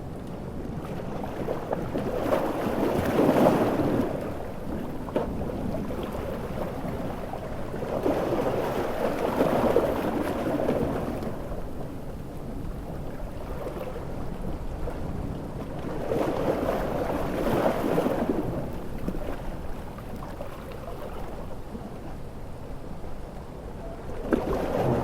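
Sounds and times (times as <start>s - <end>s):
wind: 0.0s - 25.0s
ocean waves breaking: 0.2s - 23.2s, 24.0s - 25.0s.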